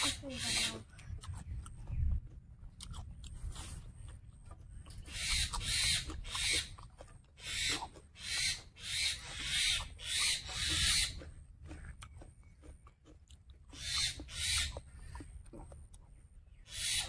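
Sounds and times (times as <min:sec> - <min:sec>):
wet open-mouth chewing: 0:00.0 - 0:17.0
mouth smacks: 0:00.9 - 0:16.0.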